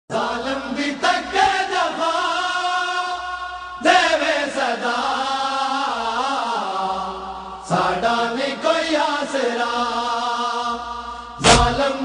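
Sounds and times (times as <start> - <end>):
men chanting a lament: 0.1 - 12.0.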